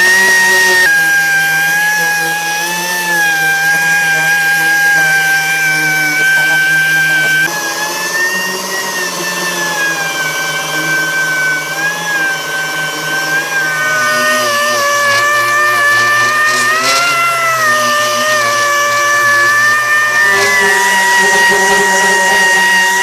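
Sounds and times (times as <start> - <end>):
motor whining: 0.0 - 23.0.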